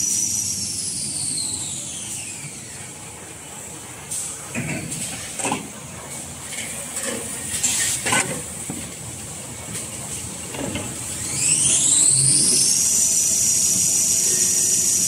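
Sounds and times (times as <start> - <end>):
factory machine hissing: 0.0 - 8.6, 9.4 - 15.0.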